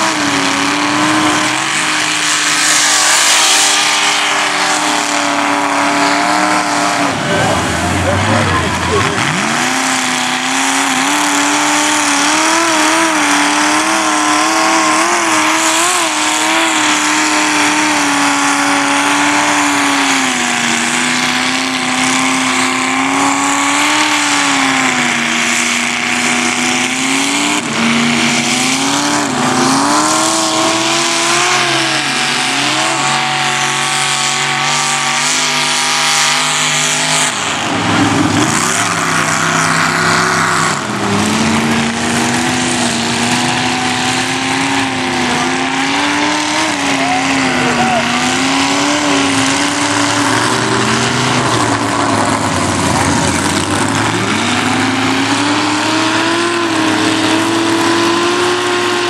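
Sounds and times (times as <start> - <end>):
truck engine revving high: 0.0 - 59.0.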